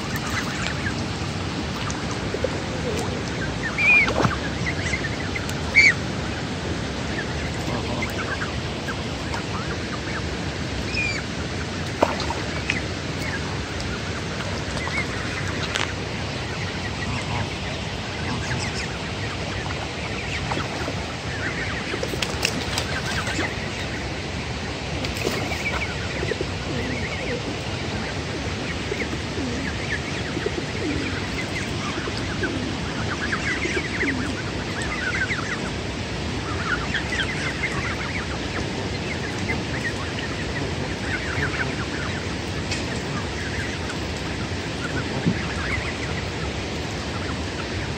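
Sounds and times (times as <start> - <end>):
goslings peeping: 0.0 - 47.9.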